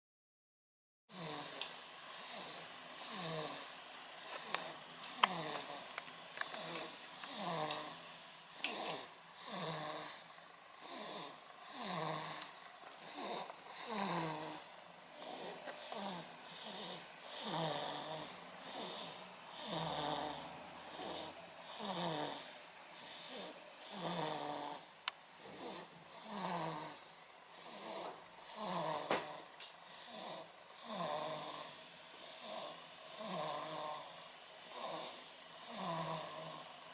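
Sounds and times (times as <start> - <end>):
baby snoring: 1.1 - 36.9.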